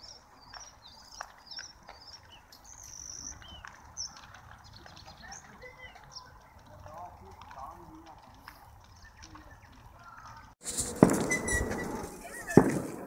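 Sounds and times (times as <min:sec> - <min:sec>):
small birds chirping: 0:00.0 - 0:12.8
burning grass crackling: 0:00.0 - 0:13.0.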